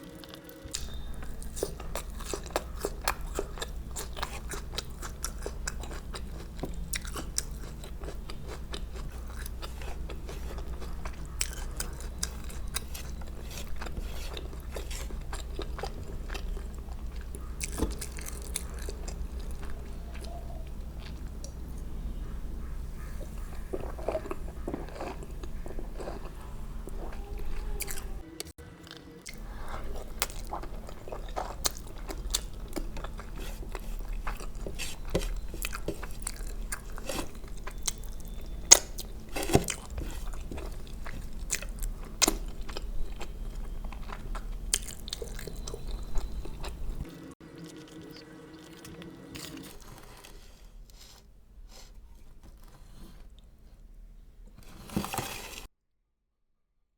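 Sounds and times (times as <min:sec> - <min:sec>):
chewing and crunching food: 0:00.0 - 0:55.7.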